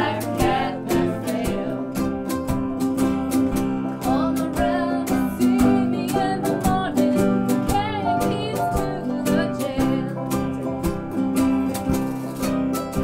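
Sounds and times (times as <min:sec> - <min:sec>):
strummed guitar: 0:00.0 - 0:13.0.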